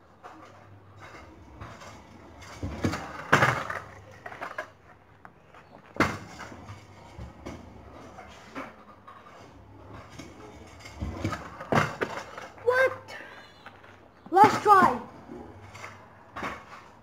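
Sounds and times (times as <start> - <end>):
scooter scraping and rolling: 0.0 - 17.0.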